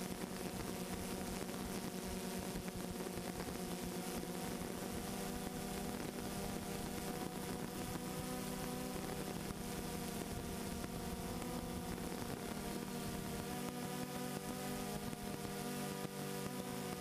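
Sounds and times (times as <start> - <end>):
drone motors buzzing: 0.0 - 17.0.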